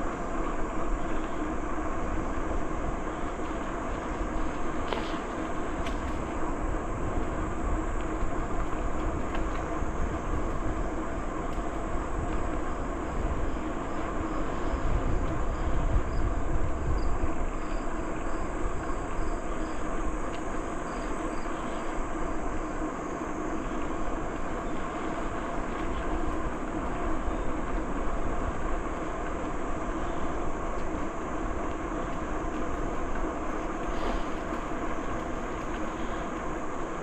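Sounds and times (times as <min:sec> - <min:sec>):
bicycle tyre rumble: 0:00.0 - 0:37.0
wind noise on microphone: 0:00.0 - 0:37.0.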